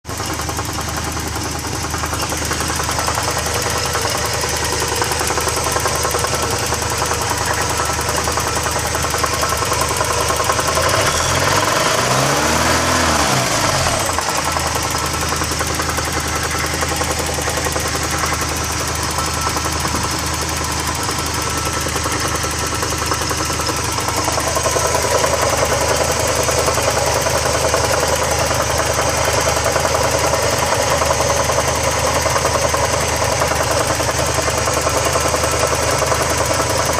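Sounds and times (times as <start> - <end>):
car engine idling with rattle: 0.0 - 36.9.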